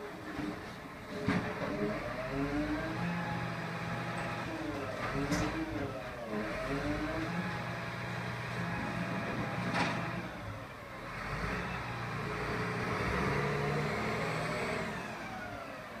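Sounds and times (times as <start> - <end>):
diesel truck engine: 0.0 - 16.0.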